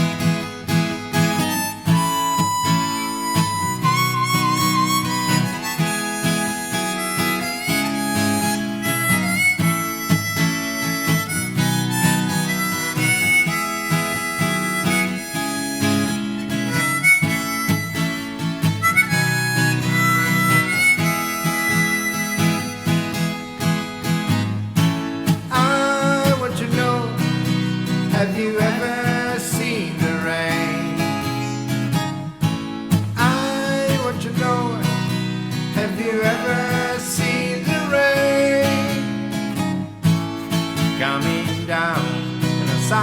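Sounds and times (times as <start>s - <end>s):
harmonica melody: 0.0s - 43.0s
strummed acoustic guitar: 0.0s - 43.0s.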